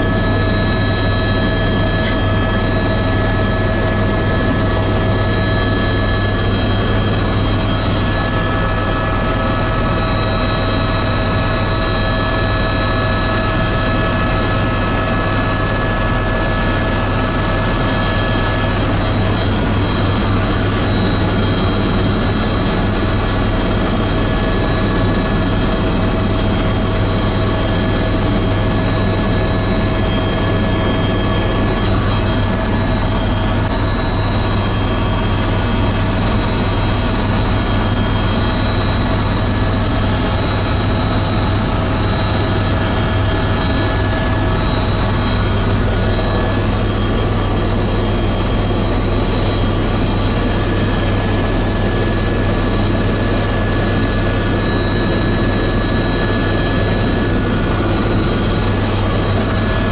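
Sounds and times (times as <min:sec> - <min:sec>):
helicopter cabin drone: 0:00.0 - 0:59.9
high turbine whines: 0:00.0 - 0:59.9.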